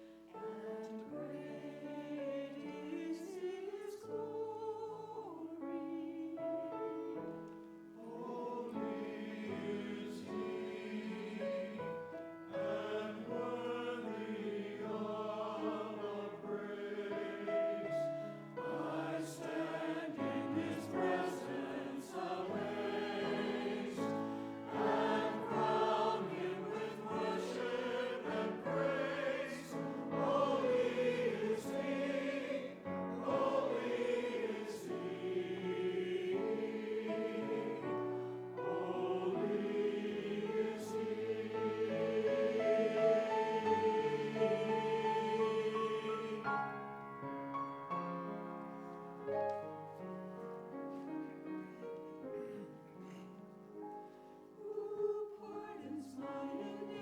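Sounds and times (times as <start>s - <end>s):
choir singing a hymn: 0.0s - 47.2s, 50.9s - 57.0s.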